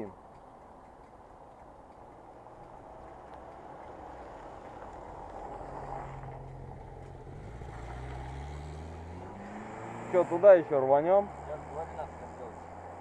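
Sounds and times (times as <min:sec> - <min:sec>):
wind and road noise: 0:00.0 - 0:13.0
motorcycle engine: 0:02.1 - 0:13.0.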